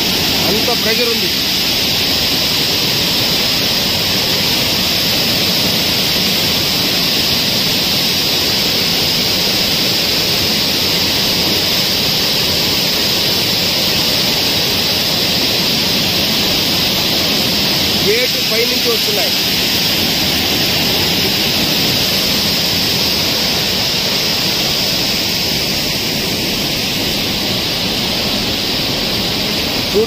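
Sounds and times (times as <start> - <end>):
water rushing through dam spillway: 0.0 - 30.0.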